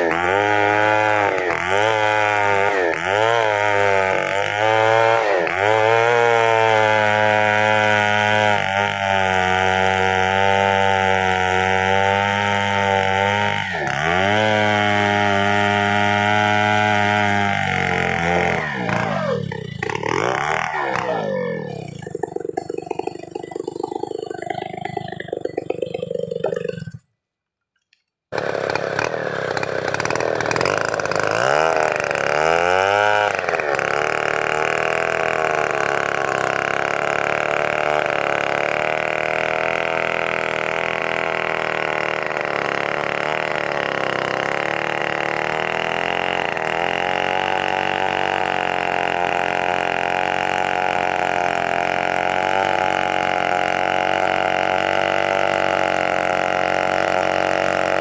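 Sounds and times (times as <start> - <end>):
chainsaw engine revving: 0.0 - 27.0, 28.3 - 58.0.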